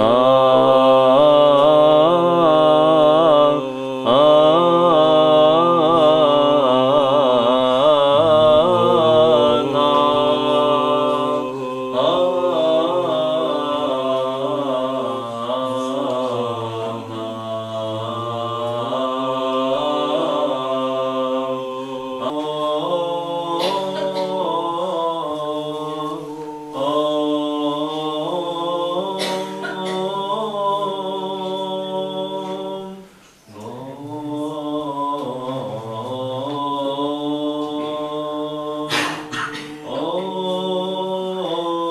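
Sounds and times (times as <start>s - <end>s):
voices chanting over held note: 0.0s - 41.9s.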